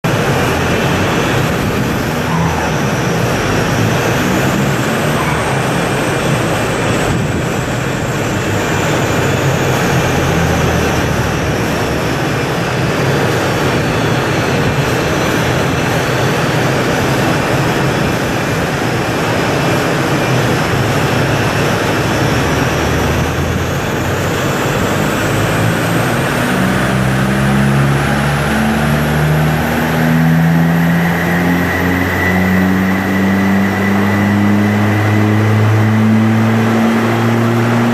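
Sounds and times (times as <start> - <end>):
diesel engine at high revs: 0.0 - 37.9.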